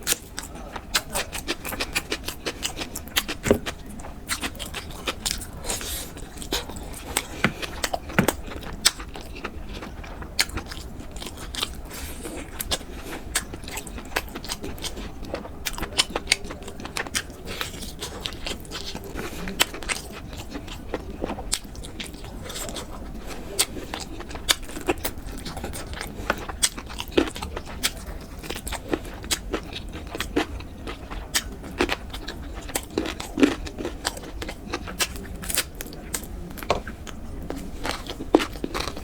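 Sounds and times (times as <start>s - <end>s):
person chewing: 0.0s - 39.0s.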